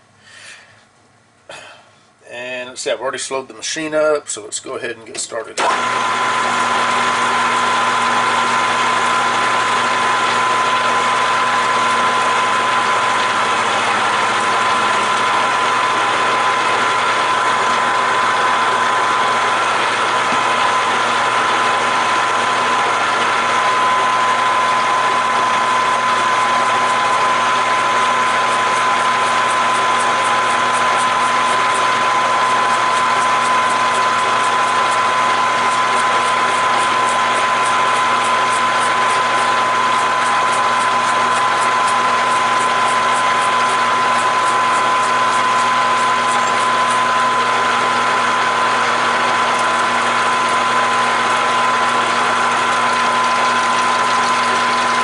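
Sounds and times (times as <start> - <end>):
lathe droning with high whine: 5.6 - 55.0.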